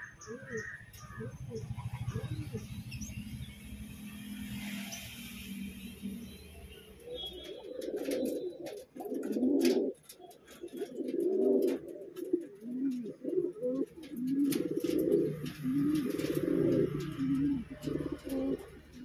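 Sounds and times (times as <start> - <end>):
pigeons cooing: 0.0 - 3.8, 6.9 - 19.0.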